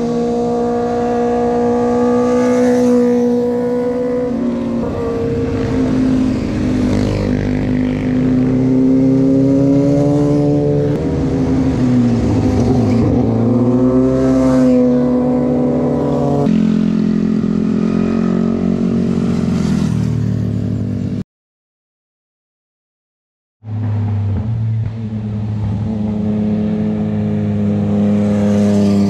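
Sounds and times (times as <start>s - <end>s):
motorcycle engines passing: 0.0s - 21.2s, 23.7s - 29.0s.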